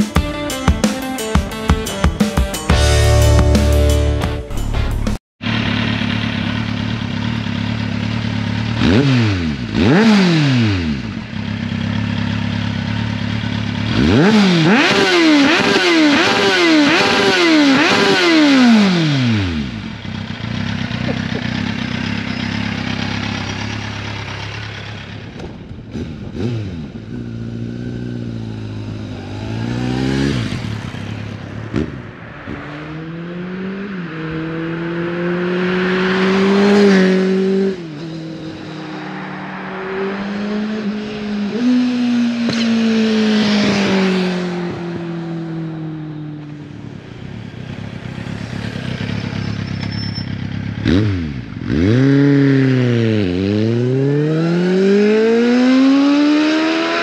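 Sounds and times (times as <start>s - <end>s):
motorcycle engine accelerating: 2.8s - 57.0s.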